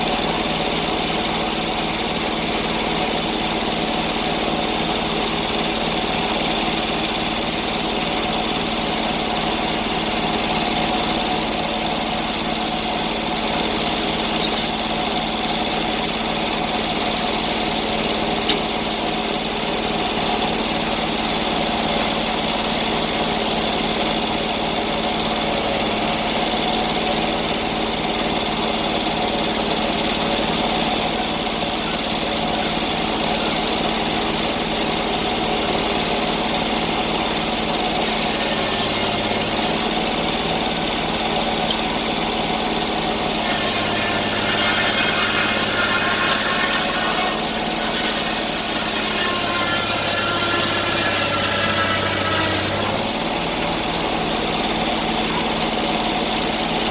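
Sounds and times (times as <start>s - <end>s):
sawmill engine running: 0.0s - 56.9s.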